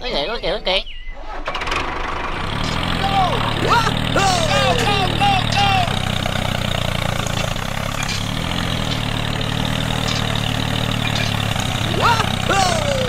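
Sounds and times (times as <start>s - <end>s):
tractor engine idling: 1.2s - 13.0s.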